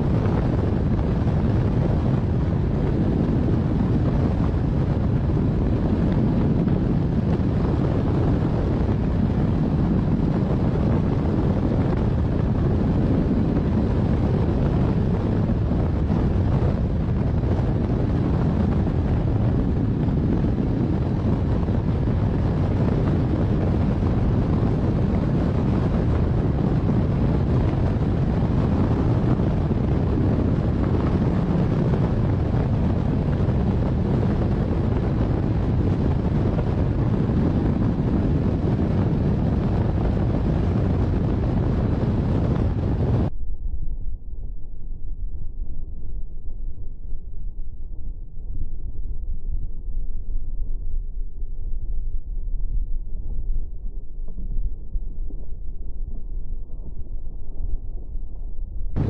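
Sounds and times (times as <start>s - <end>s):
wind buffeting microphone: 0.0s - 43.8s, 52.6s - 59.0s.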